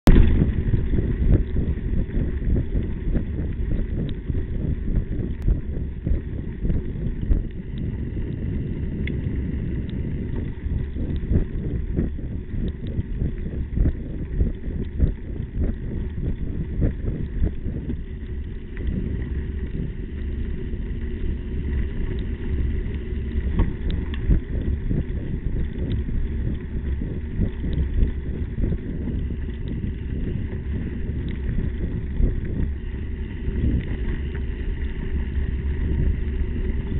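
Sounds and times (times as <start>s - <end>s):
bike tyres rumbling on dirt: 0.0s - 36.9s
wind on microphone: 0.0s - 36.9s.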